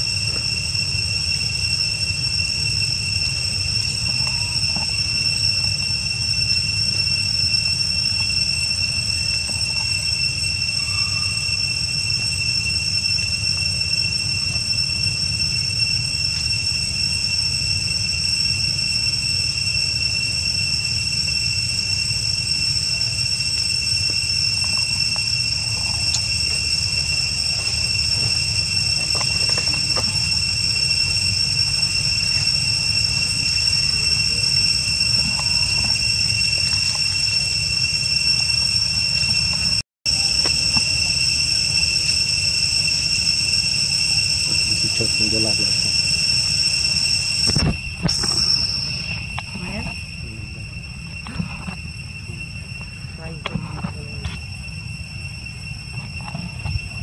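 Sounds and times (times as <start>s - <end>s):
high-pitched whine: 0.0s - 57.0s.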